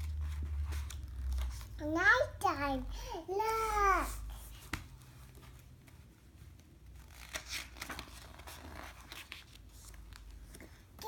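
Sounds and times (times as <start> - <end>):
book pages rustling: 0.0 - 1.9, 3.6 - 11.0.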